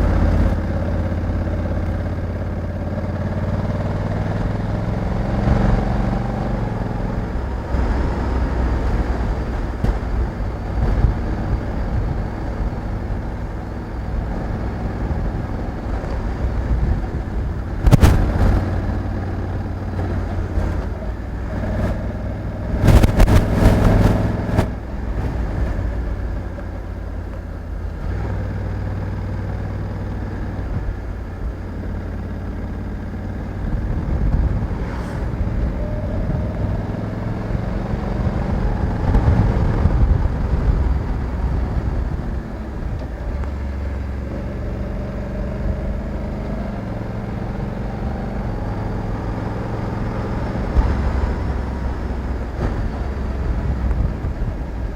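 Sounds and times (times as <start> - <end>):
loud crackling noise: 0.0 - 44.5, 48.4 - 54.9
motorcycle engine running: 0.0 - 54.9.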